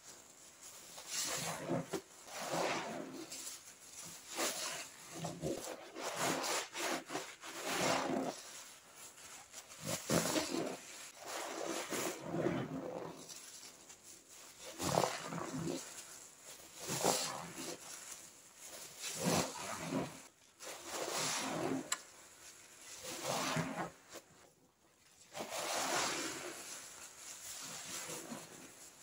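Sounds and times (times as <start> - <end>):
rasping rubbing and squishing: 0.0 - 24.4, 25.2 - 29.0.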